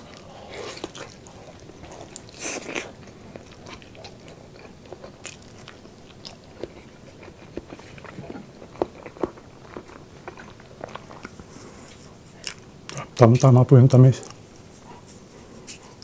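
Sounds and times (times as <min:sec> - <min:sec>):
person chewing with wet smacks: 0:00.0 - 0:13.2.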